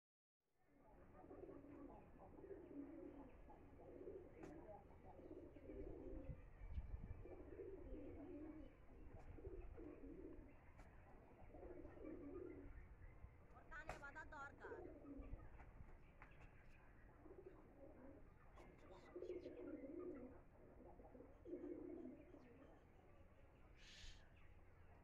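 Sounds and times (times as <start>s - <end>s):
faint bird calls: 1.0s - 25.0s.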